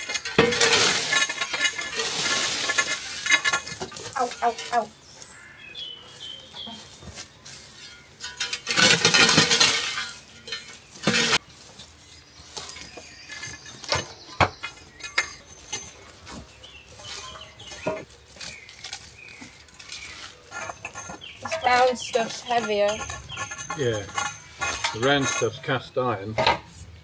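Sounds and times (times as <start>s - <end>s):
scrap metal clanking and rattling: 0.0s - 5.0s, 6.6s - 26.8s.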